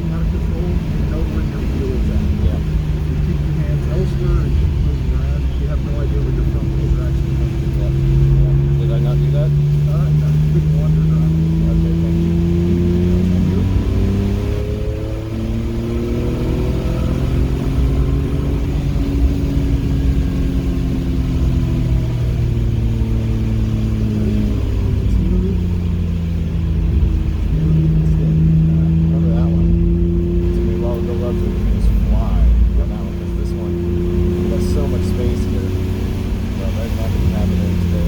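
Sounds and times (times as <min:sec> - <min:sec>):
car engine accelerating and shifting: 0:00.0 - 0:38.0
road noise rumble: 0:00.0 - 0:38.0.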